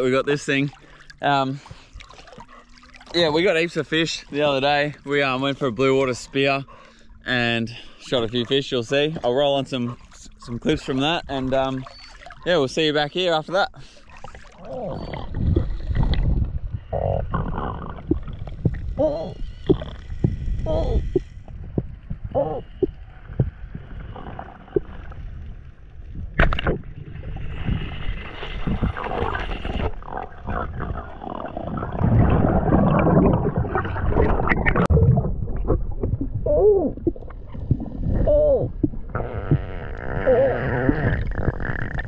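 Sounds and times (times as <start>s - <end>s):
churning water: 0.0s - 25.4s, 26.2s - 42.0s
underwater rumble: 0.0s - 42.0s.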